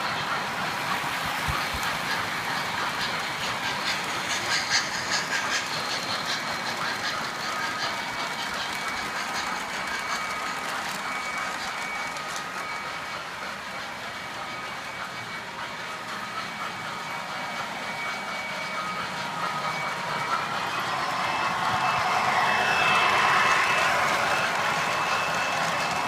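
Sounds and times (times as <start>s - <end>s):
model train motor whirring: 0.0s - 26.0s
wheels clicking on track: 0.0s - 26.0s.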